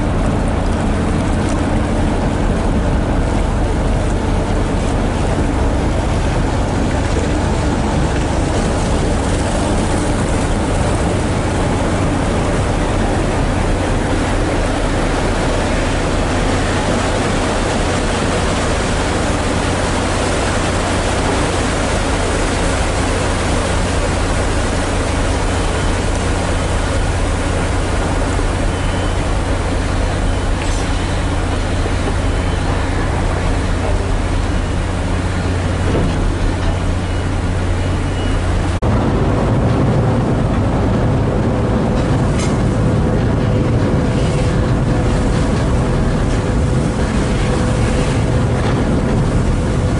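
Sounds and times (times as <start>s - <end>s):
ferry engine humming: 0.0s - 49.9s
rushing water: 0.0s - 49.9s
wind: 0.0s - 49.9s.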